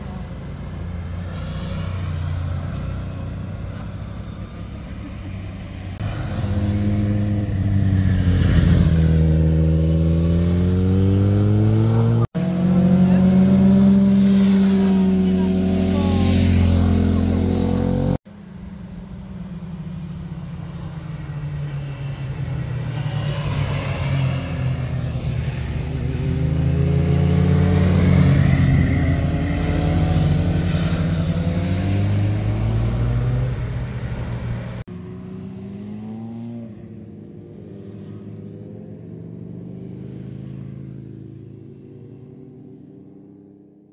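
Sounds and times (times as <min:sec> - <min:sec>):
motorcycles riding past: 0:00.0 - 0:18.2, 0:19.4 - 0:43.9.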